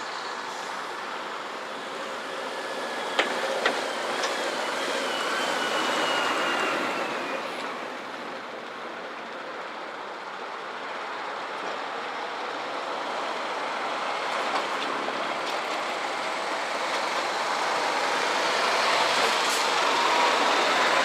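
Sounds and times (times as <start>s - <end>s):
passing vehicle whine: 0.0s - 10.2s, 13.3s - 21.0s
traffic noise: 0.0s - 21.0s.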